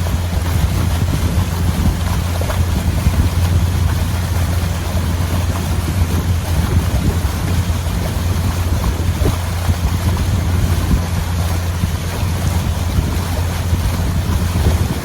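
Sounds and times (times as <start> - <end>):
boat motor rumbling: 0.0 - 15.0
moving water: 0.0 - 15.0
wind on microphone: 0.0 - 15.0.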